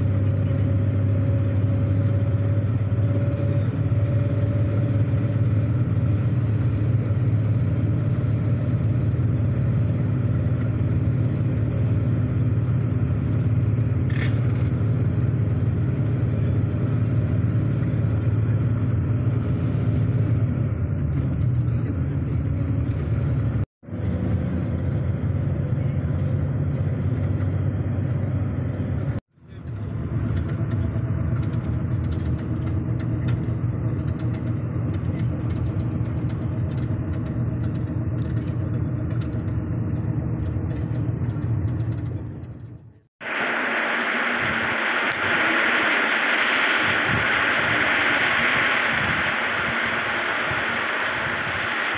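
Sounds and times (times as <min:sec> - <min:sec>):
vehicle engine and road rumble: 0:00.0 - 0:51.9.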